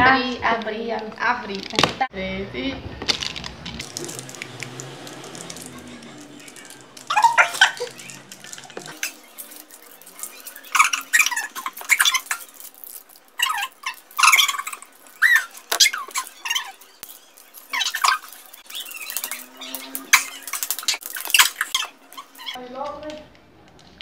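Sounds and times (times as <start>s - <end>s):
plastic wrappers crinkling: 3.0s - 24.0s.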